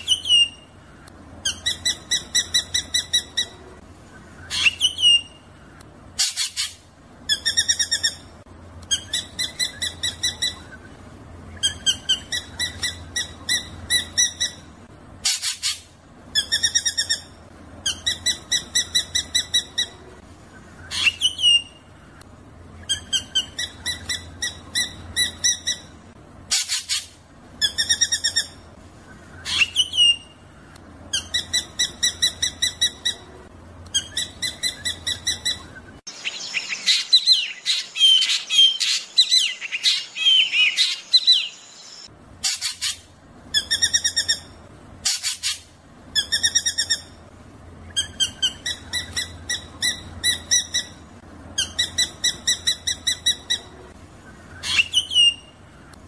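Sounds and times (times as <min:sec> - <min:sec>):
bird buzzy rattling song: 0:00.0 - 0:56.0.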